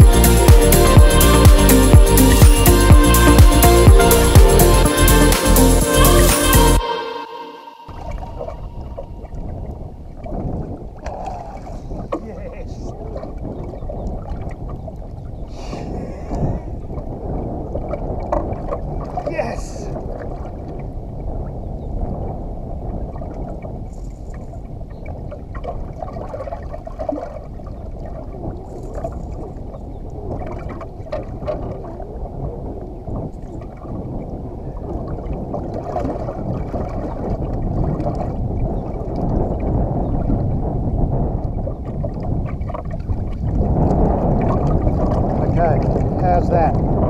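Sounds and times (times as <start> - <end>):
wind buffeting microphone: 0.0 - 5.2, 7.9 - 47.0
water slapping boat hull: 7.9 - 47.0.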